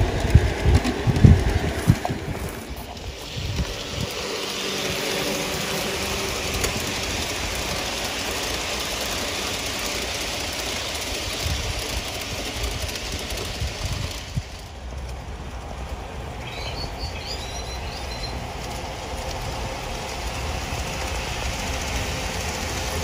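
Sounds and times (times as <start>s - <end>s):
model train rumbling on track: 0.0s - 23.0s.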